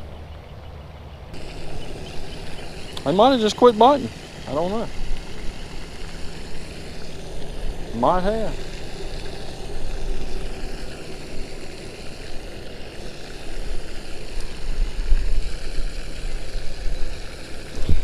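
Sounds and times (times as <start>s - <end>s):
wind rumbling on microphone: 1.3s - 18.0s.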